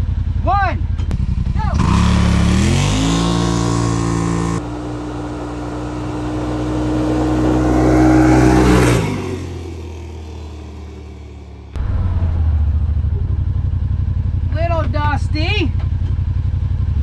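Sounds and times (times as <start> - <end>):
engine at full throttle: 0.0 - 17.0.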